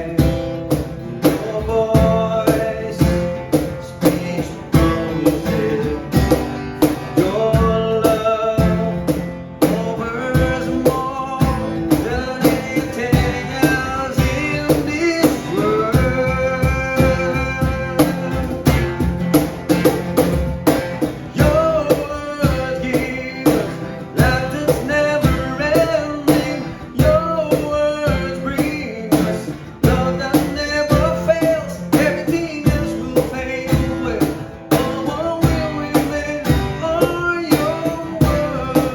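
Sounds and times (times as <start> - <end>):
person singing: 0.0 - 19.2, 21.0 - 38.9
guitar: 0.0 - 38.9
steady drum beat: 0.0 - 38.9.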